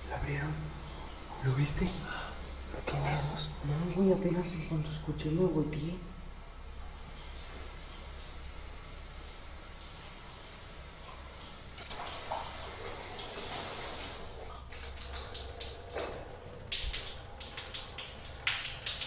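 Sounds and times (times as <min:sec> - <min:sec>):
shower spraying on tiles: 0:00.0 - 0:19.0.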